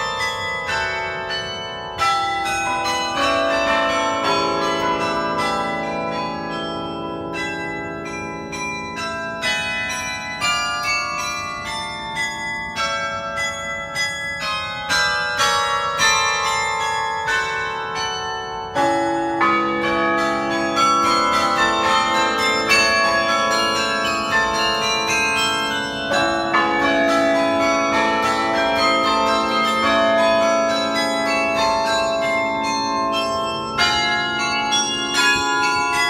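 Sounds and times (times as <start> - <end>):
carillon bells melody: 0.0 - 36.0
deep bells ringing: 0.0 - 36.0.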